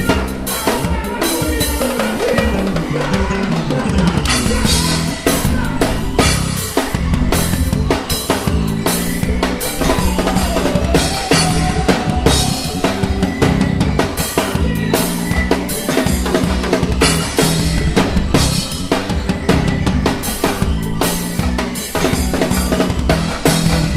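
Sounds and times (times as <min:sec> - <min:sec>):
band playing instrumental music: 0:00.0 - 0:23.9
bass drum and snare beat: 0:00.0 - 0:23.9
bass line: 0:00.0 - 0:23.9.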